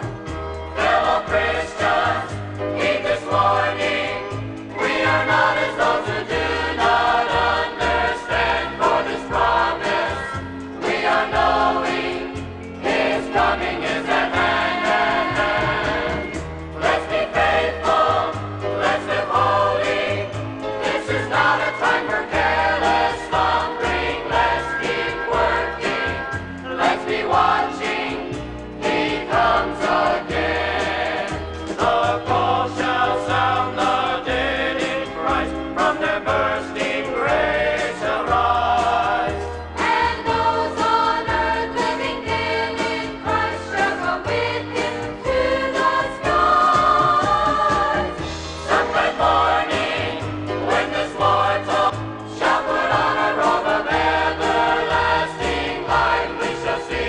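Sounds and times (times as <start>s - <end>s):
choir singing gospel: 0.0s - 57.0s
instrumental accompaniment: 0.0s - 57.0s.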